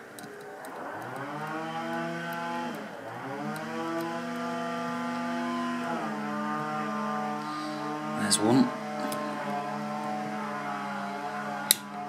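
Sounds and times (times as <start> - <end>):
petrol engine running: 0.0 - 12.0.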